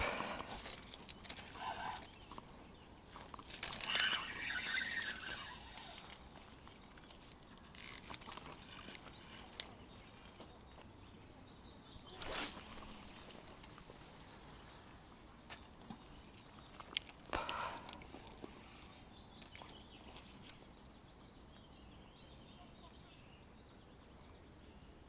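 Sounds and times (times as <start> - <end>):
bird singing: 0.1 - 13.4, 17.6 - 25.0.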